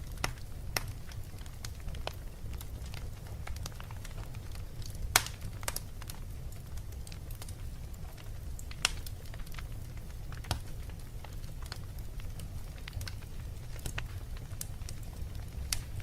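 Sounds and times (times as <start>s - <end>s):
loud fire pops: 0.0s - 16.0s
wood fire crackling: 0.0s - 16.0s.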